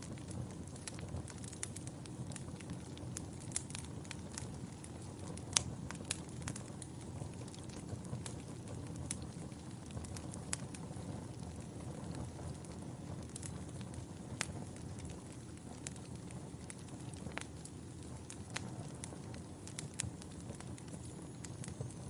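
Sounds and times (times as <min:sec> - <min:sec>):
fire crackling and popping: 0:00.0 - 0:22.0
fire rushing: 0:00.0 - 0:22.0.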